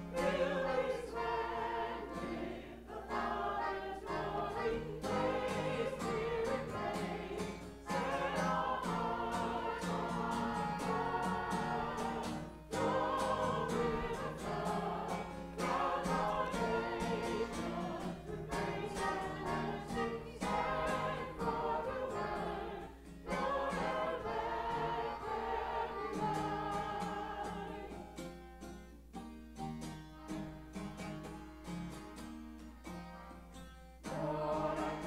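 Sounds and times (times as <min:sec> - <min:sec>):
choir singing: 0:00.0 - 0:28.2, 0:34.0 - 0:35.0
strummed acoustic guitar: 0:00.0 - 0:35.0.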